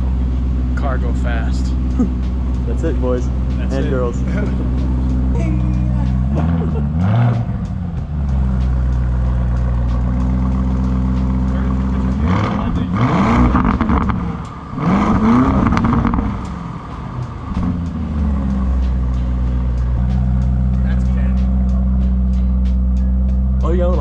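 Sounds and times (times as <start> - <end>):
car engine idling and revving: 0.0 - 24.0
exhaust crackling: 0.0 - 24.0.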